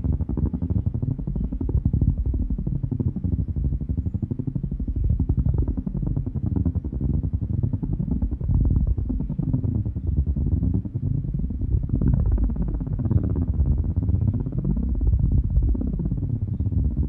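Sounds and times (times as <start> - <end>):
throbbing spaceship engine rumble: 0.0 - 17.0.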